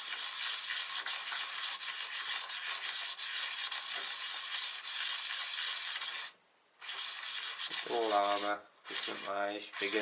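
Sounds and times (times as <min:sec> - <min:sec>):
cutter scraping on sharpening card: 0:00.0 - 0:10.0.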